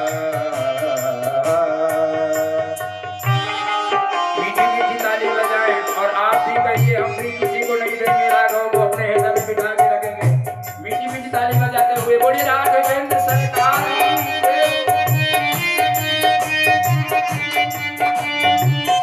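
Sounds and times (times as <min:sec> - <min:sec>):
high ticking percussion beat: 0:00.0 - 0:19.0
tabla drumming: 0:00.0 - 0:19.0.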